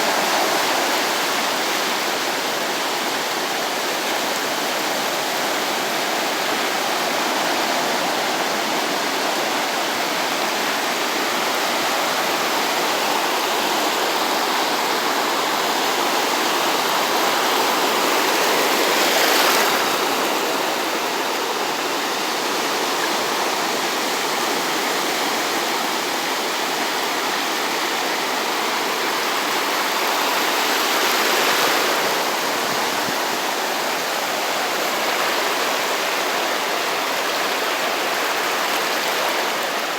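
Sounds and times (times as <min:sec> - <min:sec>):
waves washing on beach: 0:00.0 - 0:39.9.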